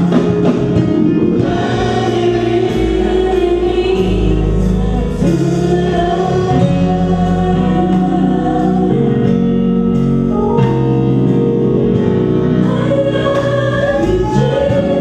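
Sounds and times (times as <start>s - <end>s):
gospel choir singing in harmony: 0.0s - 15.0s.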